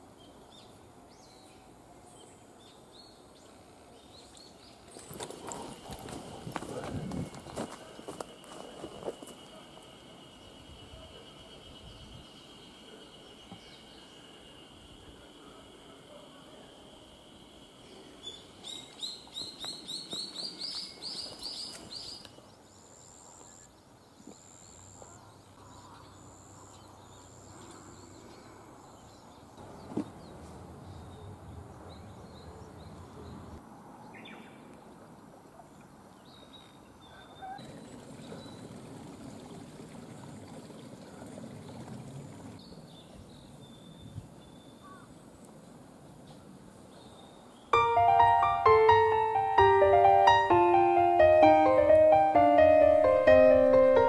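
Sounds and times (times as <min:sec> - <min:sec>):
wild birds singing: 0:00.0 - 0:49.6
outdoor background hiss: 0:00.0 - 0:54.0.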